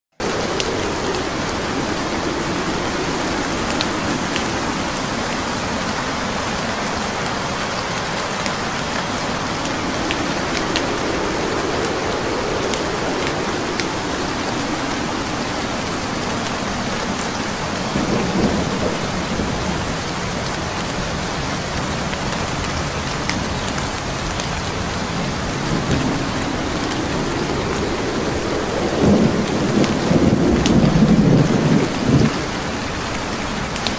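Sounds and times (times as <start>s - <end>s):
steady rain: 0.1s - 33.9s
low rumbles of thunder: 0.2s - 7.6s, 8.2s - 33.9s.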